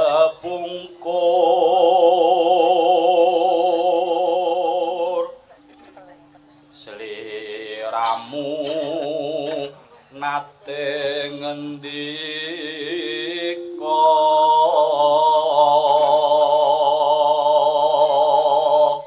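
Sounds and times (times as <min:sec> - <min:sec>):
low steady accompaniment: 0:00.0 - 0:19.0
person singing long wavering notes: 0:00.0 - 0:19.0.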